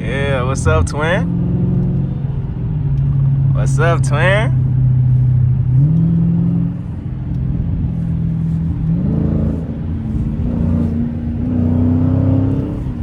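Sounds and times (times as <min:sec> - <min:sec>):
car engine under light throttle: 0:00.0 - 0:13.0.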